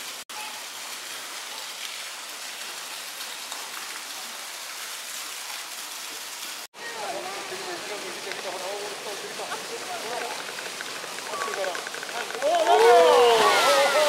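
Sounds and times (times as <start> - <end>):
rain falling on concrete: 0.0 - 14.0.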